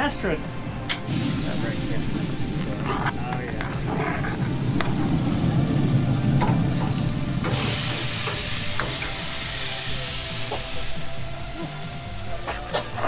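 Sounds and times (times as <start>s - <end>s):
low rumble: 0.4s - 11.6s
food sizzling on a grill: 0.9s - 13.0s.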